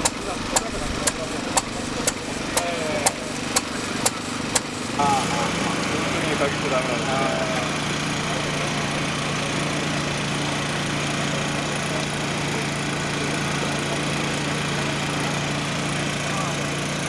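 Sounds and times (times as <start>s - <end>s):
truck engine running steadily: 0.0s - 17.0s.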